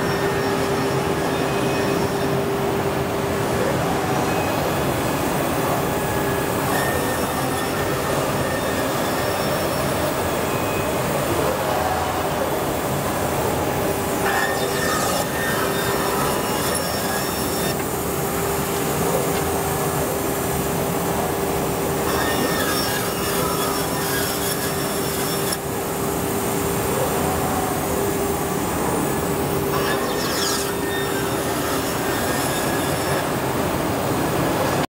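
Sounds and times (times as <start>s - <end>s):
band saw cutting wood: 4.3s - 11.6s, 12.8s - 34.9s.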